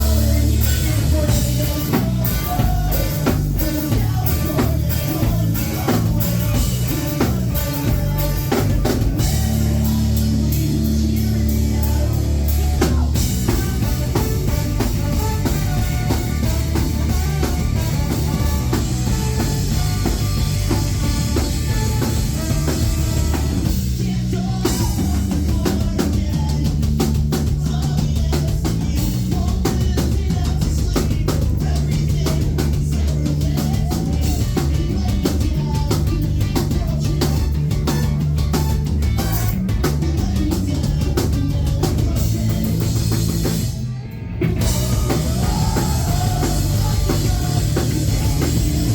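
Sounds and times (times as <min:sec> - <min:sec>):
drum kit beat: 0:00.0 - 0:48.9
live rock band playing: 0:00.0 - 0:48.9.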